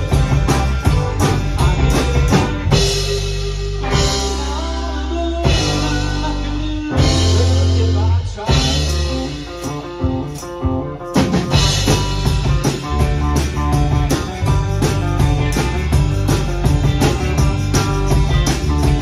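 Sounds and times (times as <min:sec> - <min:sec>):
driving drums: 0:00.0 - 0:19.0
live rock band playing: 0:00.0 - 0:19.0.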